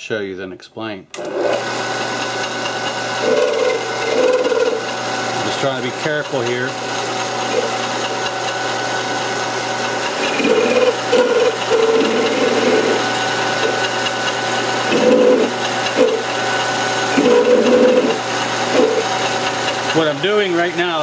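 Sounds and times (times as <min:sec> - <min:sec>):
cutting tool scraping metal: 0:01.2 - 0:21.0
lathe motor hum: 0:01.2 - 0:21.0.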